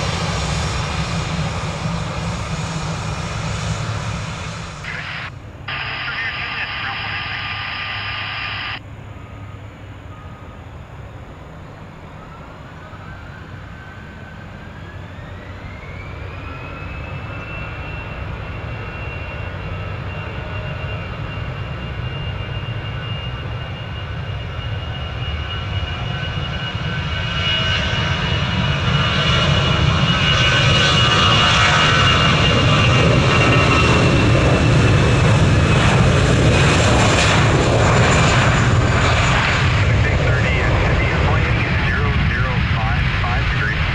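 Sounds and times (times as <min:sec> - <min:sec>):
jet engine rumble and roar: 0:00.0 - 0:43.9
jet engine whine: 0:00.0 - 0:43.9.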